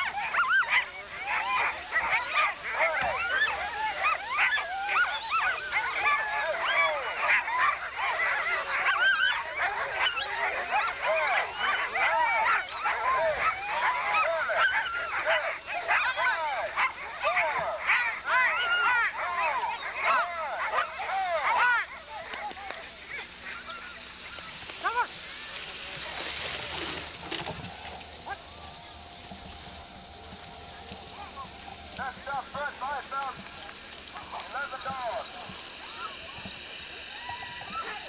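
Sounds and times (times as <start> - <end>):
sled dogs barking and yelping: 0.0 - 38.0.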